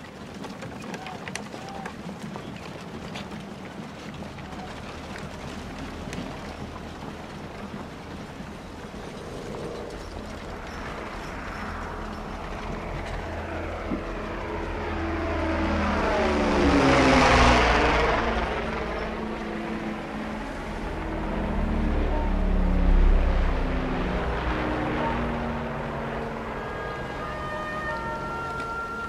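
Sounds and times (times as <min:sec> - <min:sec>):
engine passing close by: 0:02.9 - 0:29.0
steady low rumble: 0:04.2 - 0:29.0.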